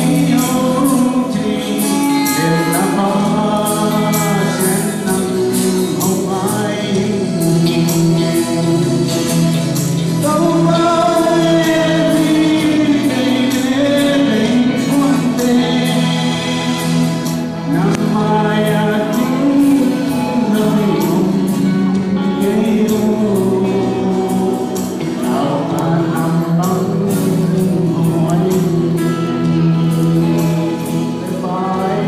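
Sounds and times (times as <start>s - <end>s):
backing track with steady beat: 0.0s - 32.0s
man singing into microphone: 0.0s - 32.0s.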